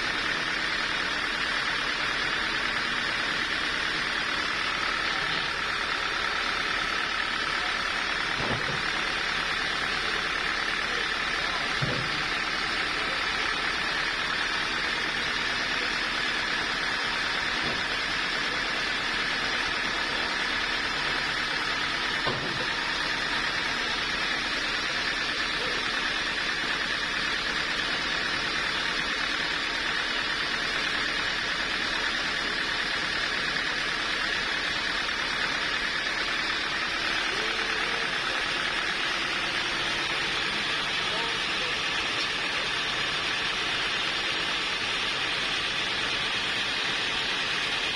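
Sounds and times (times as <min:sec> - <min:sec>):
sawmill machinery whining: 0:00.0 - 0:47.9.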